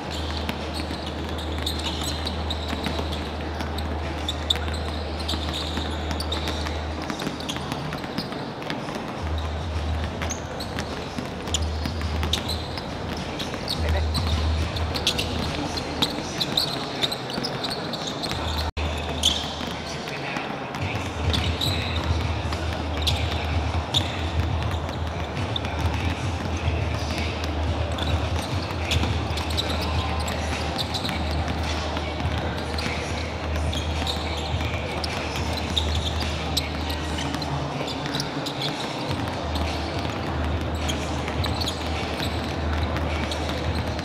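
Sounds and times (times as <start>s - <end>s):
background chatter: 0.0s - 44.0s
basketballs bouncing on hardwood: 0.0s - 44.0s.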